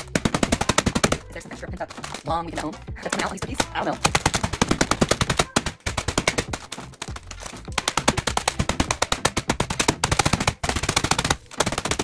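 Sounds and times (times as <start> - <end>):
rubber mallet pounding cookies: 0.0 - 12.0.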